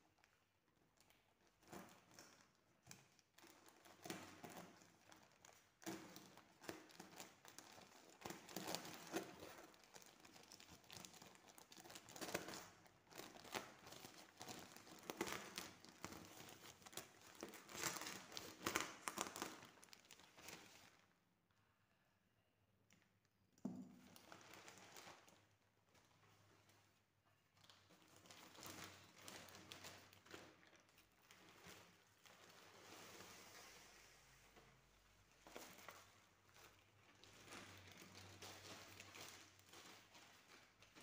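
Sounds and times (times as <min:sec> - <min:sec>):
plastic bag crinkling and tearing: 0:01.5 - 0:21.0, 0:24.0 - 0:25.4, 0:27.6 - 0:34.2, 0:35.3 - 0:41.0.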